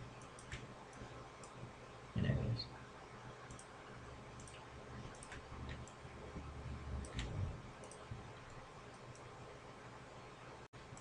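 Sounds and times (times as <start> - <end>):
faint microphone hum: 0.0 - 11.0.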